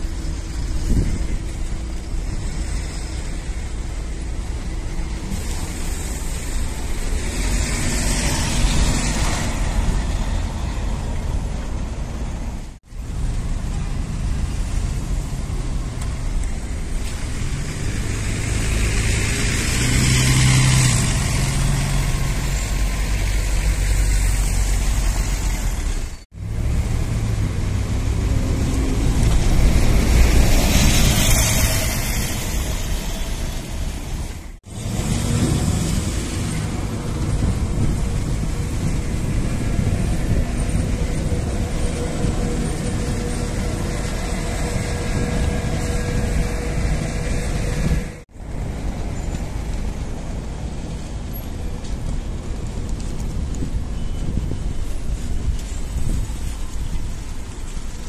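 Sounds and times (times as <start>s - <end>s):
bus engine driving past: 0.0s - 54.5s
road noise: 0.0s - 58.0s.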